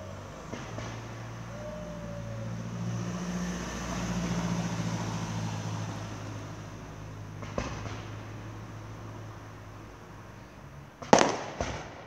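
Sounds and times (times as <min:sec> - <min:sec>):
vehicle engine hum: 0:00.0 - 0:11.3
car passing rush: 0:00.0 - 0:12.0.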